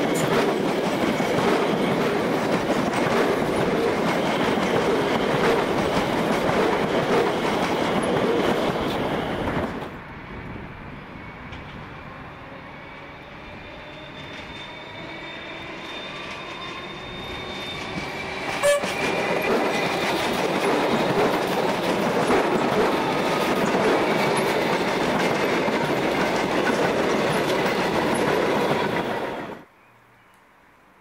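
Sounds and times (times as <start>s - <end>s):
train wheels rumbling and rattling: 0.0s - 29.6s
train high whine: 0.0s - 29.7s.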